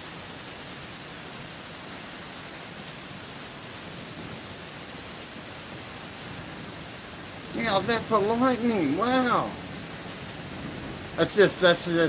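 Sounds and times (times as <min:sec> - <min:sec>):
rain and wind hiss: 0:00.0 - 0:12.0.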